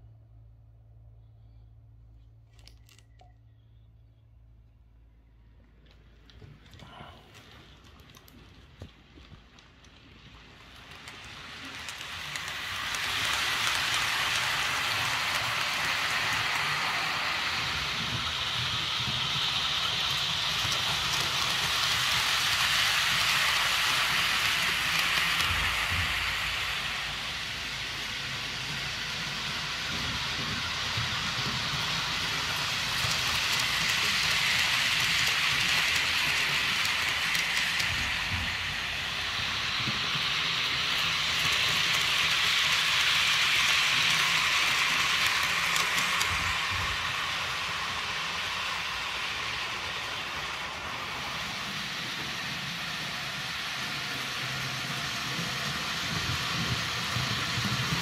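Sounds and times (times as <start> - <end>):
model train rattling on track: 5.9 - 58.0.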